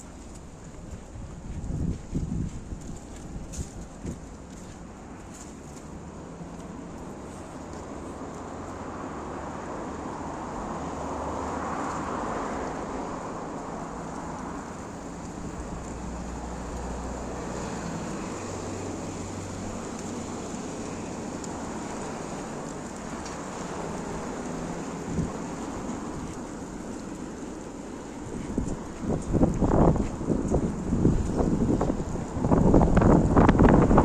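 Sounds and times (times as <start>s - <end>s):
steady low traffic rumble: 0.0s - 34.0s
vehicle passing: 6.0s - 34.0s.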